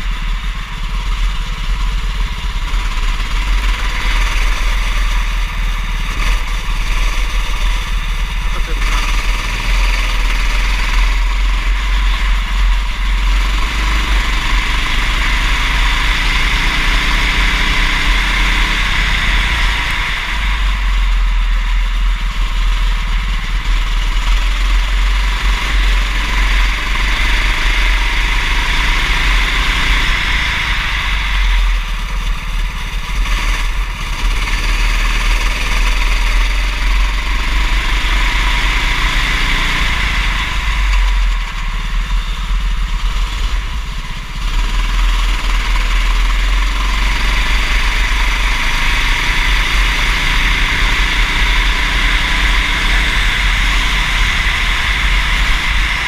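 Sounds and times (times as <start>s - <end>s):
go-kart engine revving: 0.0s - 56.0s
steady low rumble: 0.0s - 56.0s.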